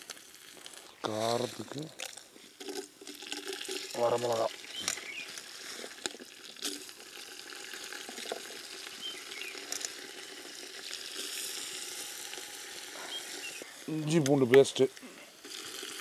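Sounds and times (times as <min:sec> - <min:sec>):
chillies sizzling in oil: 0:00.0 - 0:16.0.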